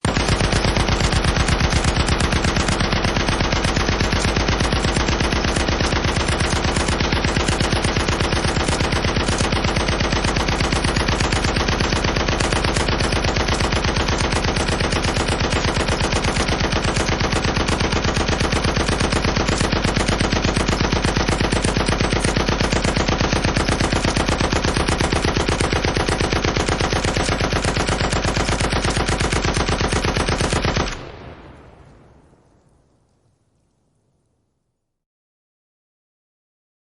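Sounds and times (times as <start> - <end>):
heavy machine gun firing: 0.0 - 31.6.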